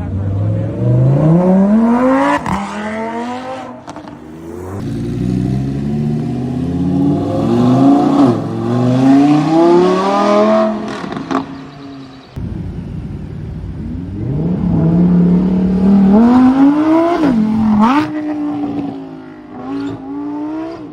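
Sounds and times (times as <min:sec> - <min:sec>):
car engine accelerating hard: 0:00.0 - 0:20.9.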